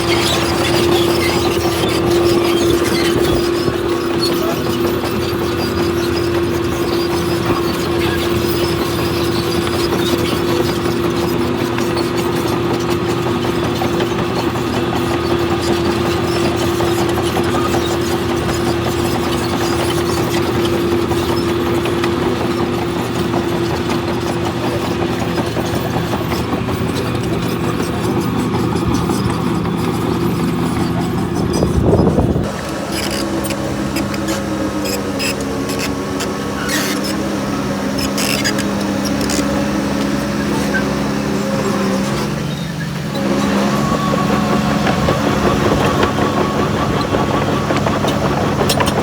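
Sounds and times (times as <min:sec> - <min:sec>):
diesel engine droning: 0:00.0 - 0:49.0.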